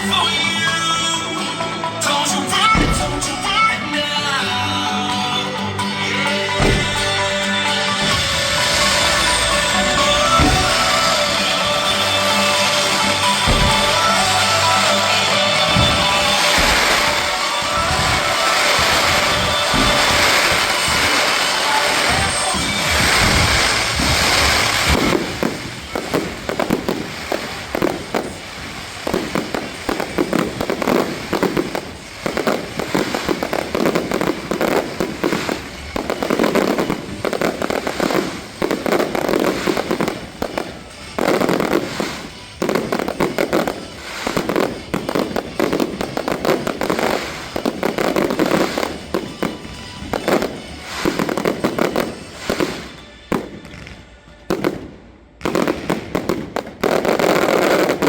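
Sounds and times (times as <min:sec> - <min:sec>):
fireworks crackling: 0:00.0 - 0:58.0
firework shell bursts: 0:02.7 - 0:03.8, 0:06.5 - 0:53.7.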